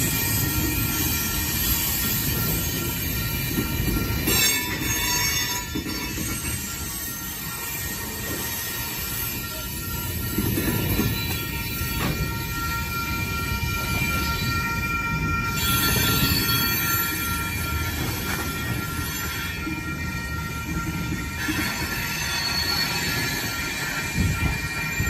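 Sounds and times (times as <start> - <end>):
high wheel squeal: 0.0 - 25.0
train wheels rumbling on rails: 0.0 - 25.0.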